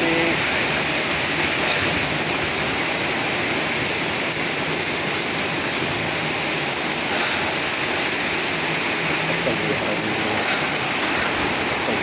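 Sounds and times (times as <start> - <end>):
heavy rain and gusting wind: 0.0 - 12.0.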